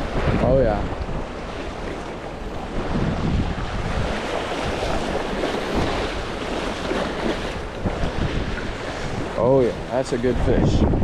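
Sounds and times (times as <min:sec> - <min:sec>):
waves splashing against bank: 0:00.0 - 0:11.0
wind buffeting microphone: 0:00.0 - 0:11.0.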